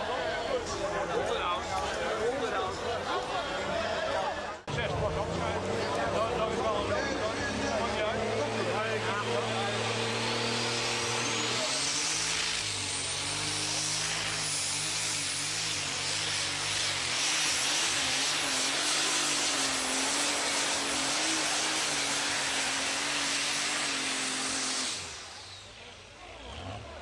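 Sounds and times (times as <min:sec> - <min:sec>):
diesel tractor engine under load: 0:00.0 - 0:27.0.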